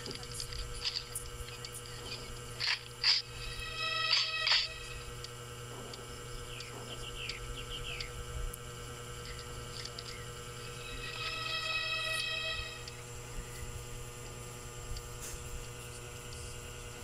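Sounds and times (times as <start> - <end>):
held musical tones: 0.0 - 14.8
birds chirping: 0.0 - 17.0
soundtrack hum: 0.0 - 17.0.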